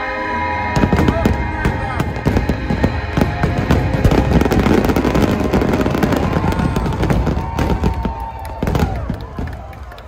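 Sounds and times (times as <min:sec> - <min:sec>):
fireworks bangs: 0:00.7 - 0:09.9
fireworks crackle: 0:00.8 - 0:10.0.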